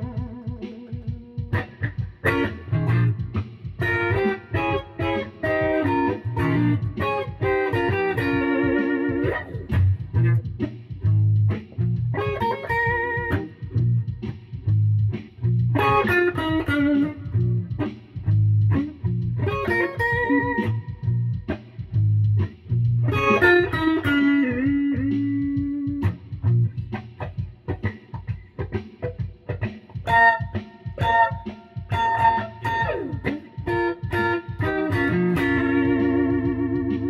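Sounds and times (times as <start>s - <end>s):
electric guitar riff: 0.0s - 37.0s.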